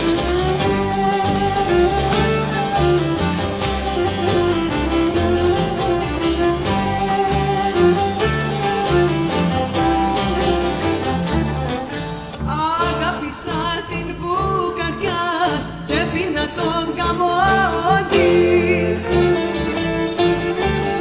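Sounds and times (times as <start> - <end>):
viola melody: 0.0 - 13.8, 17.0 - 21.0
bass: 0.0 - 21.0
strummed lute: 0.0 - 21.0.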